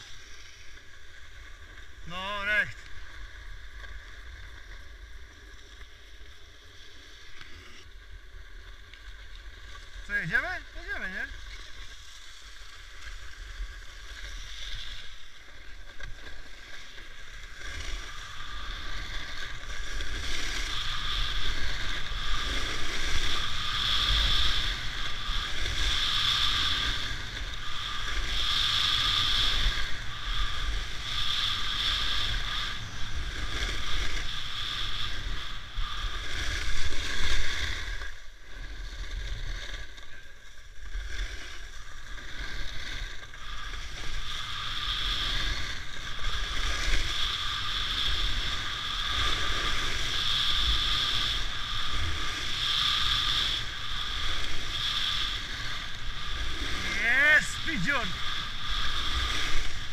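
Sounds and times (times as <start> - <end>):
skis scraping swish on snow: 0.0 - 59.9.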